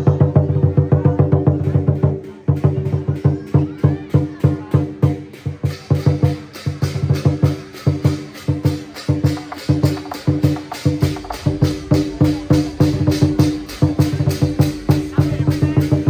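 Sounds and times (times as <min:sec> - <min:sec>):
big drum beaten fast: 0:00.0 - 0:16.0
clashing cymbals: 0:00.0 - 0:16.0.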